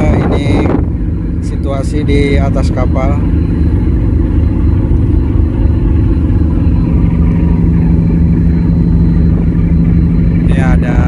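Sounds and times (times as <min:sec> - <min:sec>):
ferry engines humming: 0:00.0 - 0:11.0.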